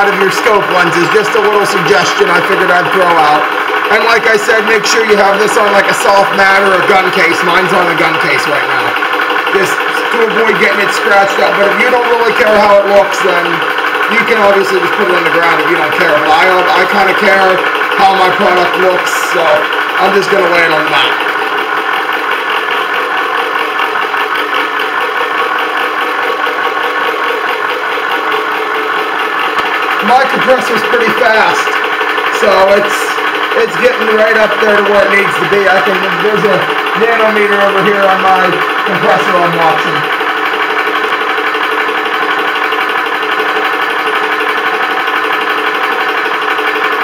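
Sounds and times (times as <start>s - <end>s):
air compressor pumping: 0.0s - 47.0s.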